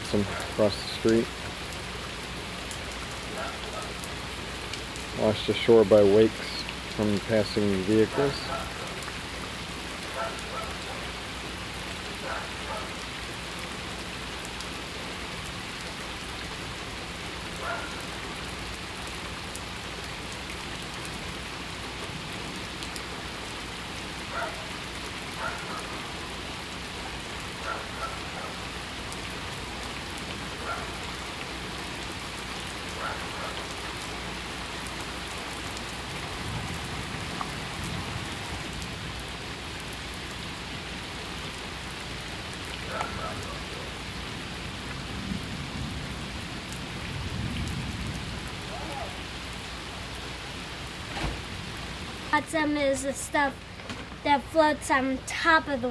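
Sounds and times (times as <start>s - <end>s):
light rain on flooded street: 0.0s - 55.9s.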